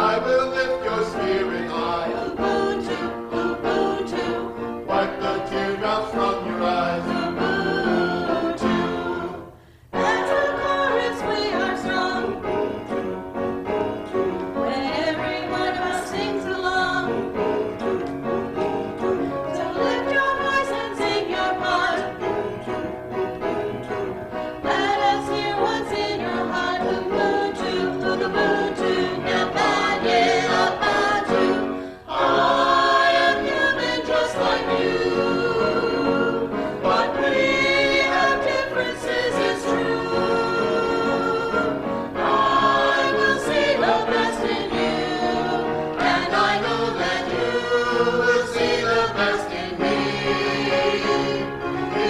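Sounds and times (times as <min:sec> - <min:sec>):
mixed choir singing a hymn: 0:00.0 - 0:52.0.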